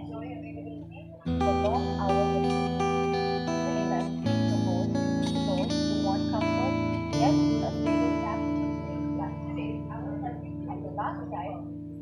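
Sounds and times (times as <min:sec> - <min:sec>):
guitar music with held chords: 0:00.0 - 0:12.0.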